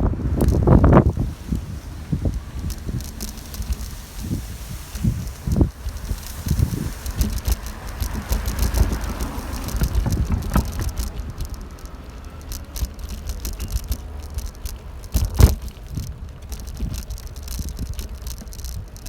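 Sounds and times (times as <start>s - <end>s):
bicycle rattling and clicking: 0.0s - 19.0s
wind rumble on microphone: 0.0s - 19.0s.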